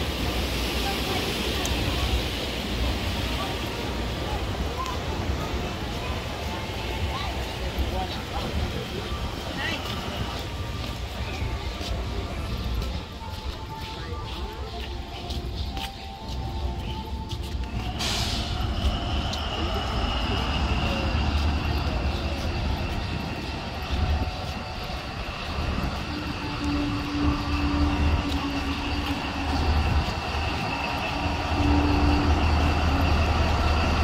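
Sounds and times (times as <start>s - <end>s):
diesel locomotive idling: 0.0s - 34.0s.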